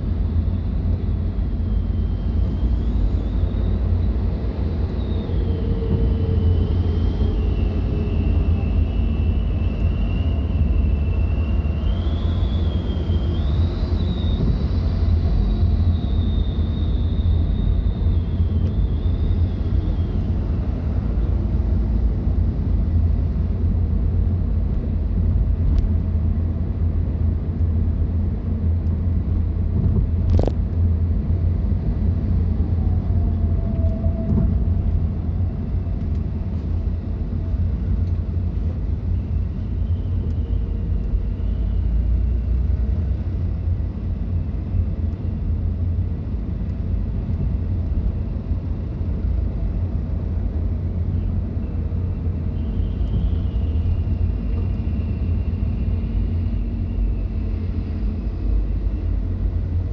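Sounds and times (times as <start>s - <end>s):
car driving on road: 0.0s - 59.9s.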